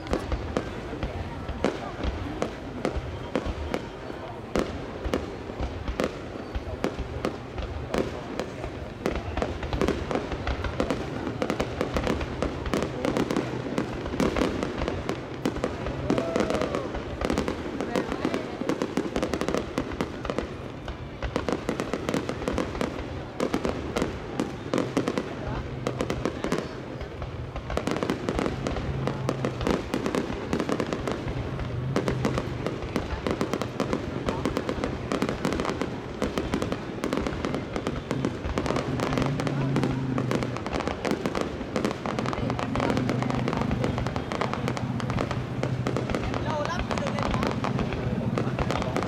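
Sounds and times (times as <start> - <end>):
fireworks bangs and crackles: 0.0 - 49.0.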